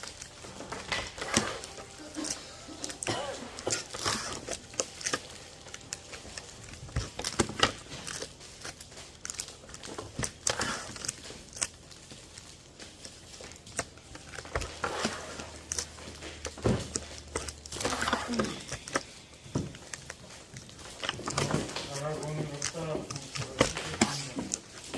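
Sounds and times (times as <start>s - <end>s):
plastic packaging crinkling: 0.0s - 24.9s.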